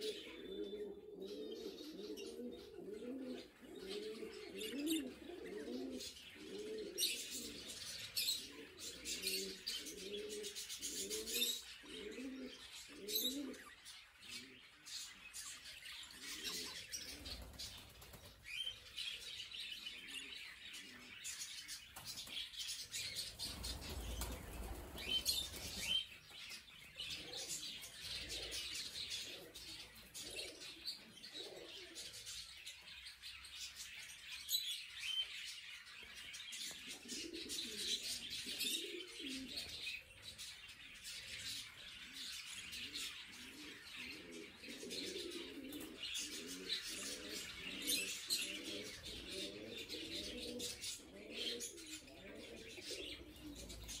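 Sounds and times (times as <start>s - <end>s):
budgerigars chirping and chattering: 0.0s - 54.0s.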